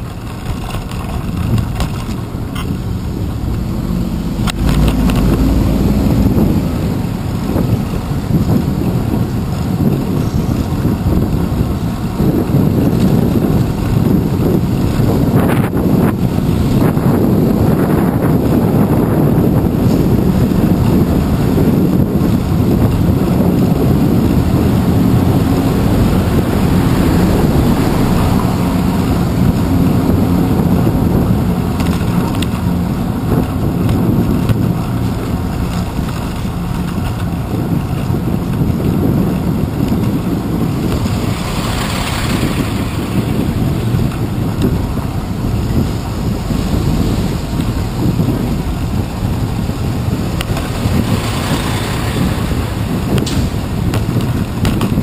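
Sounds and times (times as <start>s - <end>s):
city traffic: 0.0s - 55.0s
wind and road rumble: 0.0s - 55.0s.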